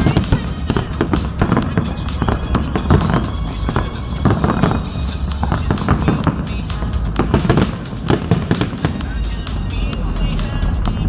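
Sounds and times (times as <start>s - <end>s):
fireworks bangs and crackles: 0.0s - 11.0s
low rumble: 0.0s - 11.0s
music playing: 0.0s - 11.0s.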